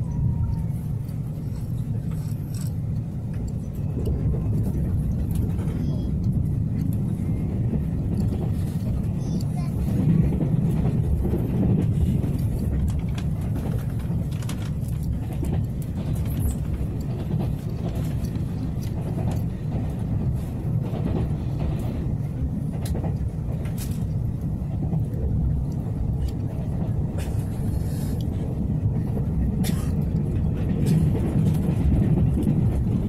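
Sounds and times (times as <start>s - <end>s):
train low rumble: 0.0s - 33.0s
faint clicks and rattles: 1.0s - 33.0s.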